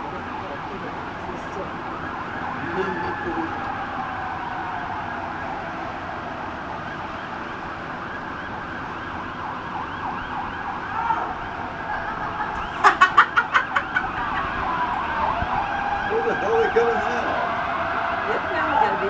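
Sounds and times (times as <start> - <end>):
emergency sirens wailing: 0.0 - 19.0.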